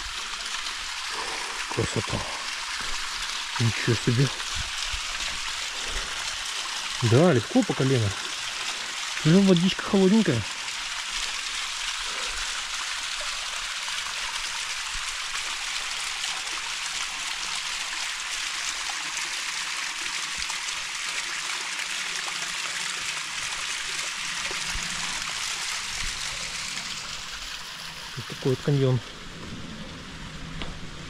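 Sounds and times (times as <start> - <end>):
small waterfall splashing into pool: 0.0 - 31.0.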